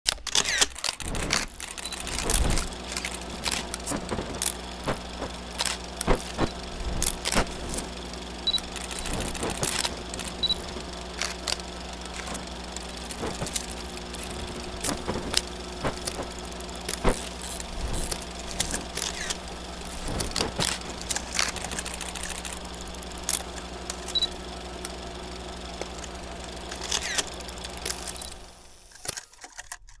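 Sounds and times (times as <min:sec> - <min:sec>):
film crackle clicks and pops: 0:00.1 - 0:30.0
low hum: 0:00.8 - 0:28.9.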